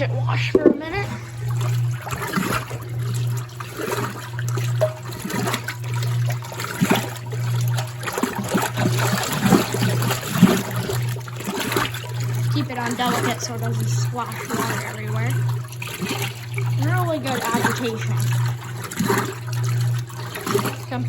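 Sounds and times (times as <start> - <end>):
washing machine motor hum: 0.0 - 21.0
water sloshing in a tub: 0.0 - 21.0.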